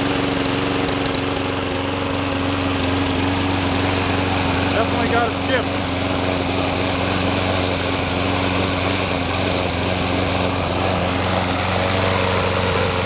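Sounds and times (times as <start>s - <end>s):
lawn mower engine misfiring: 0.0s - 13.0s.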